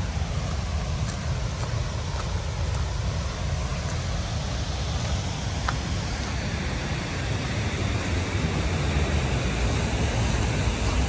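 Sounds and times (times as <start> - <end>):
heavy low rumble: 0.0 - 11.0
water rushing through spillway: 0.0 - 11.0.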